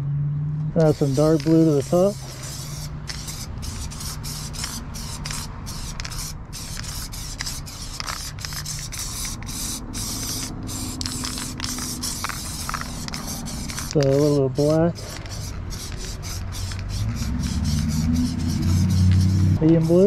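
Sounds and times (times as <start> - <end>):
spray paint can hissing: 0.8 - 20.0.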